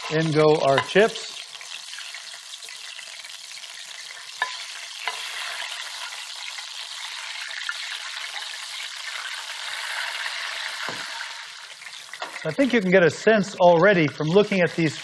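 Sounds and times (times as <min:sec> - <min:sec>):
chips sizzling in hot oil: 0:00.0 - 0:15.0.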